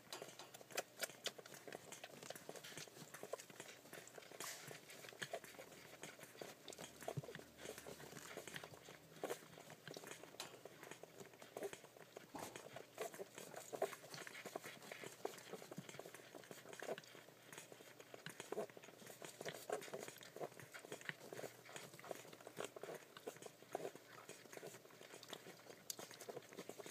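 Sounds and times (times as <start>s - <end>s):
puppies suckling clicks and smacks: 0.0s - 26.9s.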